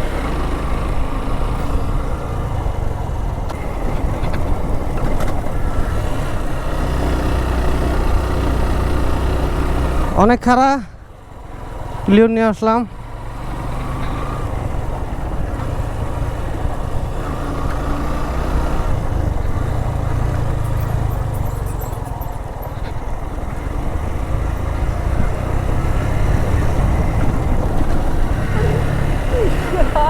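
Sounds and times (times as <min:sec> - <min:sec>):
motorcycle engine pulling uphill: 0:00.0 - 0:30.0.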